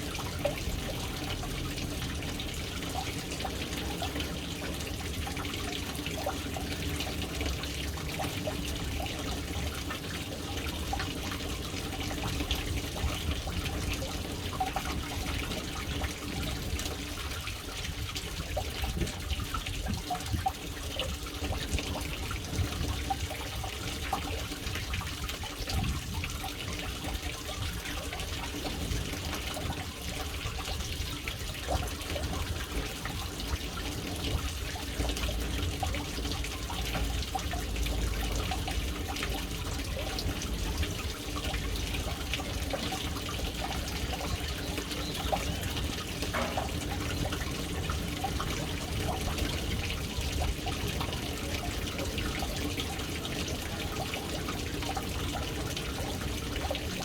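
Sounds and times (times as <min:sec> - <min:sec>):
water trickling into a tank: 0:00.0 - 0:57.0.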